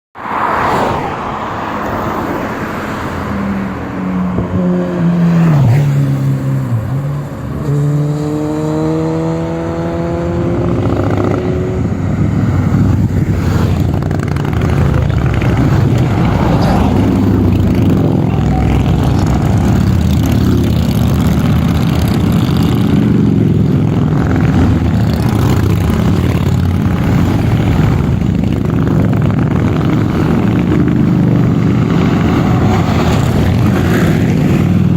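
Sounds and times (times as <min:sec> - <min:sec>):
motorcycle engines revving: 0:00.2 - 0:34.9.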